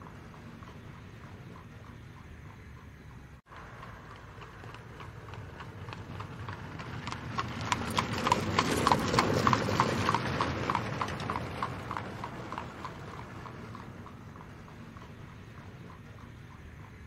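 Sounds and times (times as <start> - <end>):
carriage rumbling: 0.0 - 17.0
horse hooves clip-clopping: 0.0 - 17.0.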